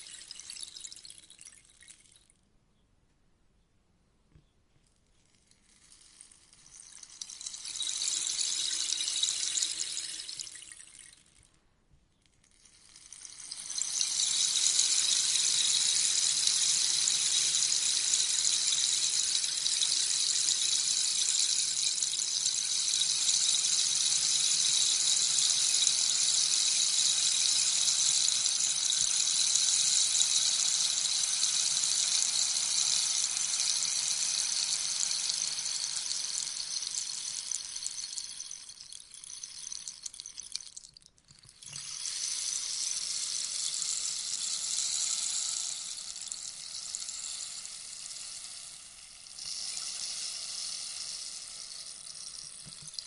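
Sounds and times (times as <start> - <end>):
rainstick beads pattering: 5.0 - 11.5, 12.2 - 53.0.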